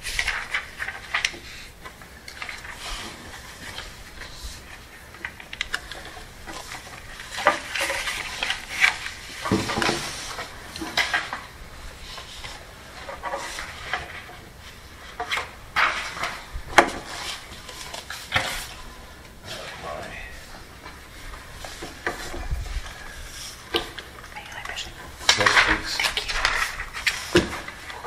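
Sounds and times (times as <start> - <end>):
rustling: 0.0 - 28.0.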